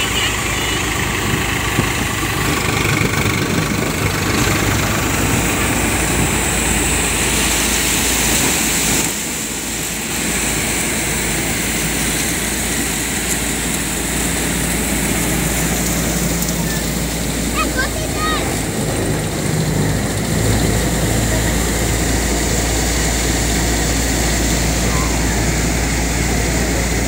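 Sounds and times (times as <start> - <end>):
diesel tractor running: 0.0 - 27.0
thresher drum and belt whirring: 0.8 - 27.0.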